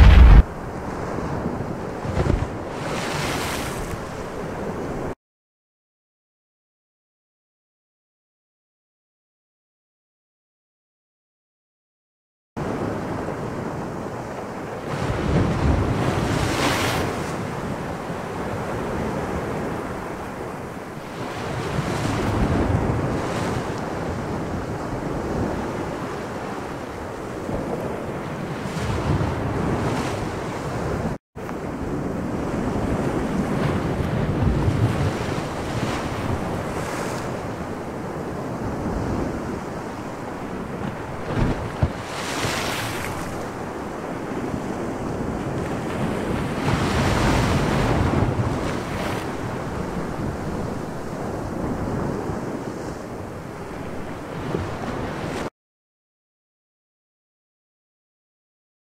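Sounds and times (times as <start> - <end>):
sea waves: 0.0 - 5.2, 12.6 - 55.5
wind: 0.0 - 5.2, 12.6 - 55.5.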